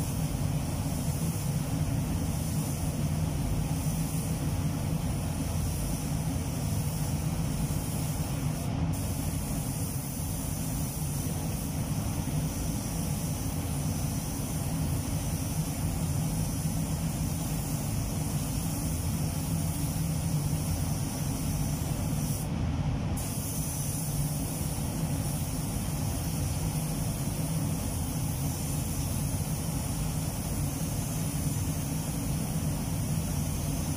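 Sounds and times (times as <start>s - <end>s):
spray gun hissing: 0.0s - 22.5s, 23.1s - 33.9s.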